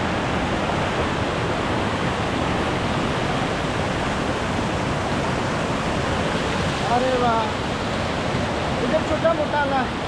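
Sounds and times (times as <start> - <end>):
stream rushing over cascades: 0.0 - 10.0.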